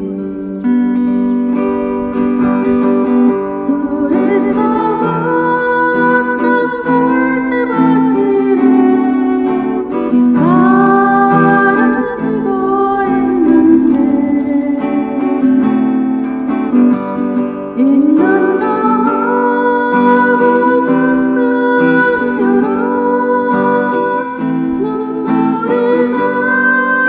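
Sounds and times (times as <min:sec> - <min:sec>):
acoustic guitar ballad: 0:00.0 - 0:27.0.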